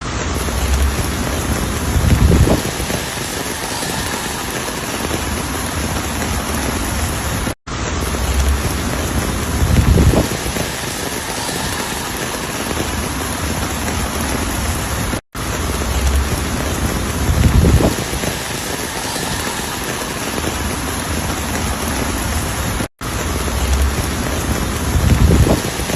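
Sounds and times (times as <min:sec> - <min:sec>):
heavy rain hiss: 0:00.0 - 0:25.9.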